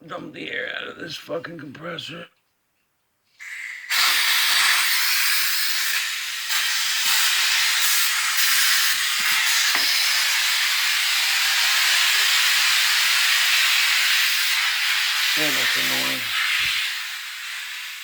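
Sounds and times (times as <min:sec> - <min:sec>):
compressed air hissing: 0:03.4 - 0:18.0.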